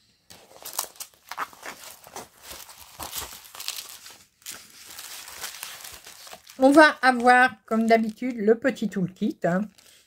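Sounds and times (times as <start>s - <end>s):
plastic packaging crinkling: 0.3s - 10.0s.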